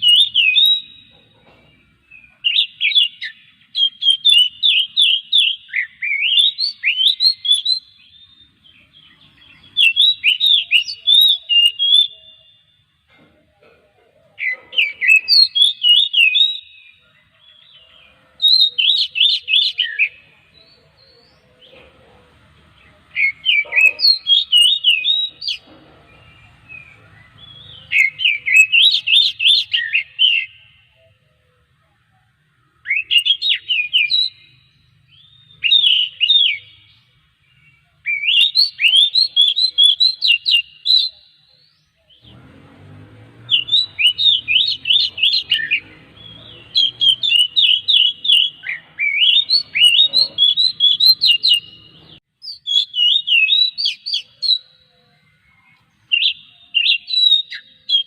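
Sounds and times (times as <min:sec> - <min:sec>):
magpie-robin singing whistled phrases: 0:00.0 - 0:01.4, 0:02.0 - 0:12.8, 0:14.4 - 0:21.5, 0:23.1 - 0:30.8, 0:32.7 - 0:42.3, 0:43.4 - 0:58.0.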